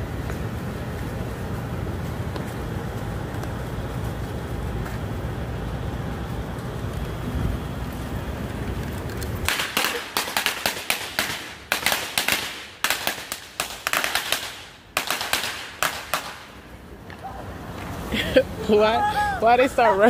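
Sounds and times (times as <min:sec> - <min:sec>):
firecrackers cracking: 0:00.0 - 0:18.3.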